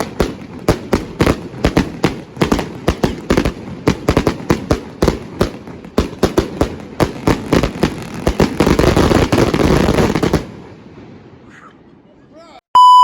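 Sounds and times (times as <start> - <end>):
fireworks bangs and crackling: 0.0 - 11.4.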